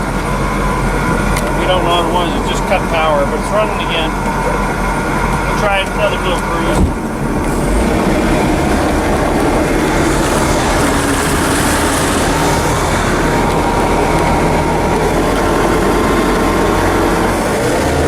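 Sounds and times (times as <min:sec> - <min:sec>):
boat engine running: 0:00.0 - 0:18.0
rushing noise: 0:00.0 - 0:18.0.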